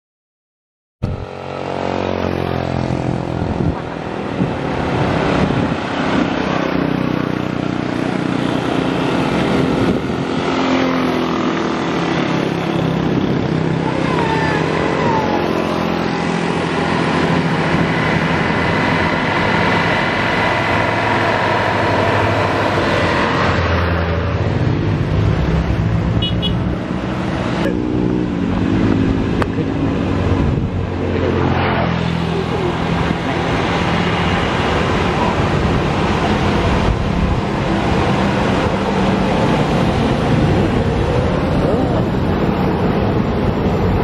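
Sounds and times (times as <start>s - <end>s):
bus diesel engine pulling uphill: 1.0s - 44.0s
road and tyre noise: 1.0s - 44.0s.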